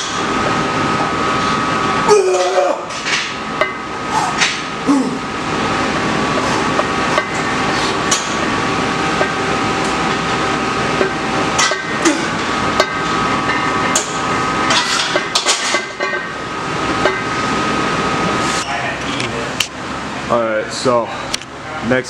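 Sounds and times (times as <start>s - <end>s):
gym fan noise: 0.0s - 22.0s.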